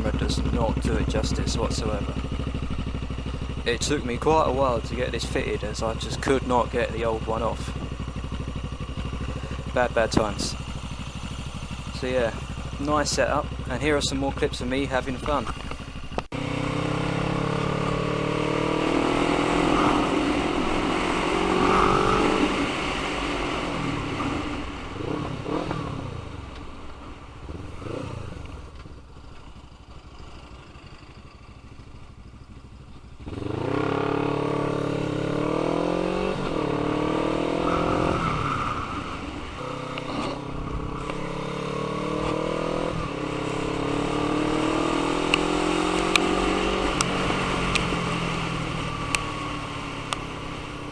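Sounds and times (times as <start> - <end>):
motorcycle accelerating through gears: 0.0 - 50.9.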